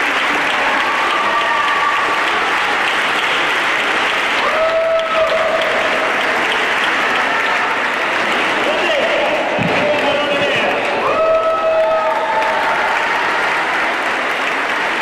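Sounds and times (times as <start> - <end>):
audience clapping: 0.0 - 15.0.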